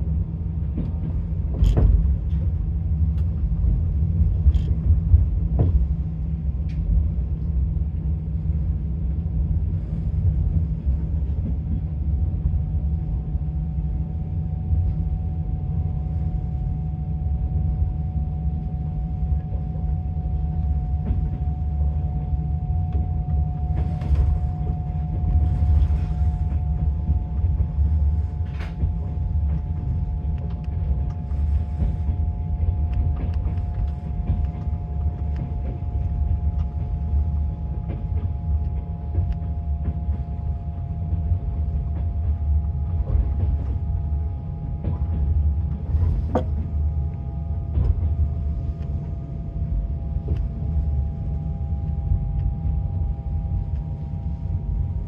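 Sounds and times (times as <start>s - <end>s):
faint steady whine: 0.0s - 55.0s
train wheels rumbling on track: 0.0s - 55.0s.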